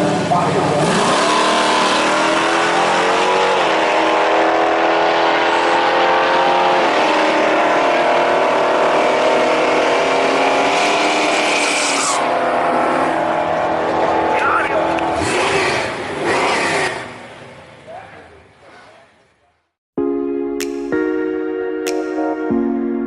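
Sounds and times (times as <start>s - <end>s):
drag racing engines at full throttle: 0.0s - 19.3s.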